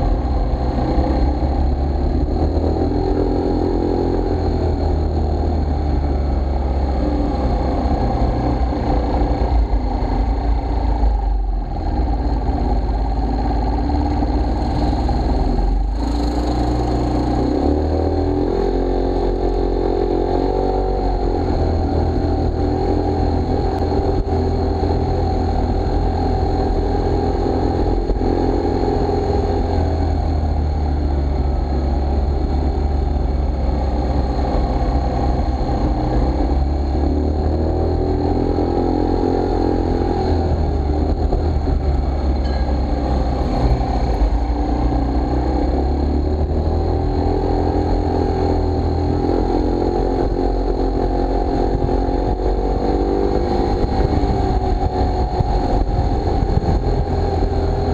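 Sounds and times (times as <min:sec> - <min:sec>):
scooter motor running: 0:00.0 - 0:57.9.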